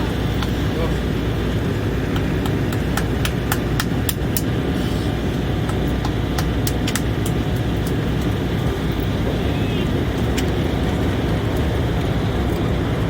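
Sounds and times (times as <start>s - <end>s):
airliner cabin engine drone: 0.0s - 13.0s.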